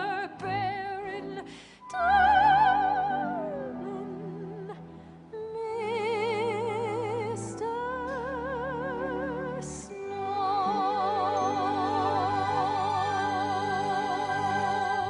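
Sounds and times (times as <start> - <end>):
operatic singing with orchestra: 0.0 - 4.9, 5.6 - 15.0.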